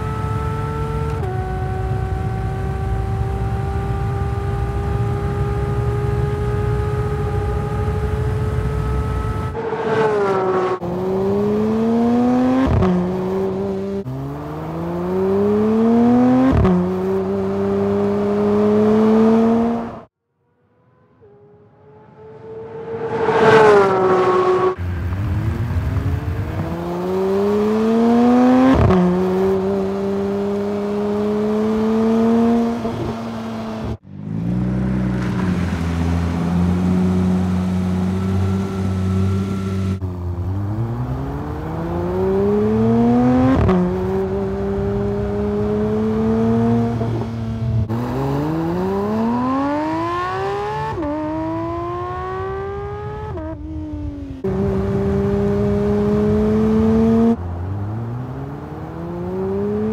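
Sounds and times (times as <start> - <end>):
car engine accelerating hard: 0.0 - 20.1, 21.1 - 59.9.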